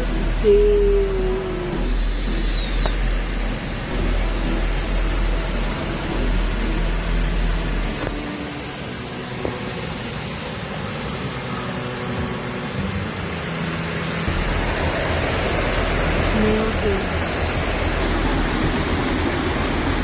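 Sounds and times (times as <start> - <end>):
low rumble: 0.0 - 13.3, 14.2 - 20.0
heavy rain: 0.0 - 20.0
rushing floodwater: 0.0 - 20.0.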